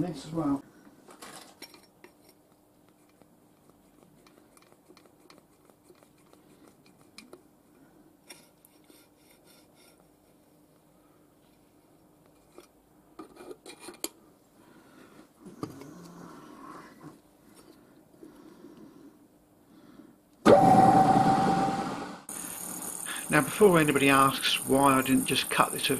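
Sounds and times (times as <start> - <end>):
faint steady hum: 0.0 - 25.9.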